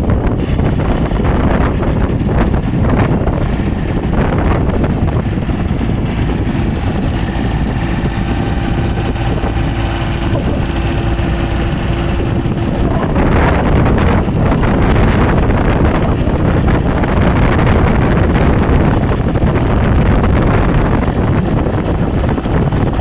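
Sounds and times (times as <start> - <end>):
tractor engine humming: 0.0 - 23.0
wind buffeting microphone: 0.0 - 23.0.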